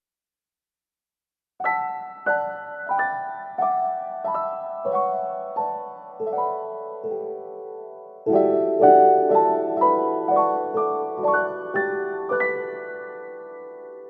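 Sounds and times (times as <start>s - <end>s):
slow piano melody: 1.6s - 14.0s.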